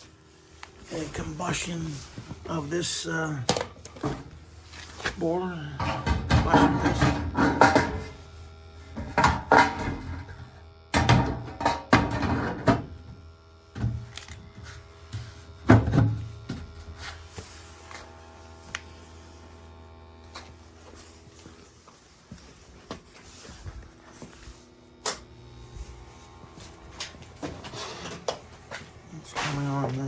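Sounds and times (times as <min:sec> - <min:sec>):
low hum with held tones: 0:00.0 - 0:30.0.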